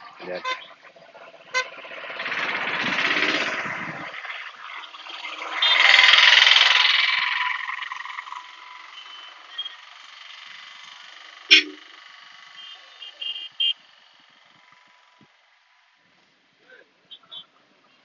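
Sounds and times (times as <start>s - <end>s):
rushing hiss of traffic: 0.0s - 15.4s
vehicle passing rumble: 0.0s - 15.8s.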